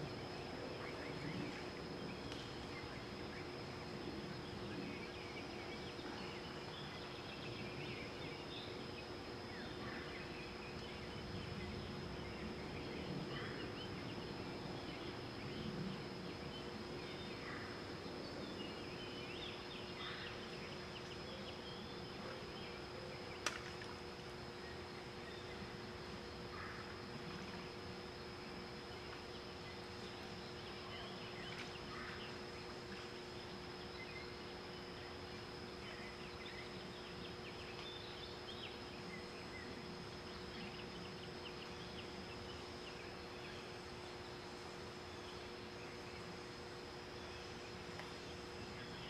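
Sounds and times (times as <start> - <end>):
high insect drone: 0.0 - 49.0.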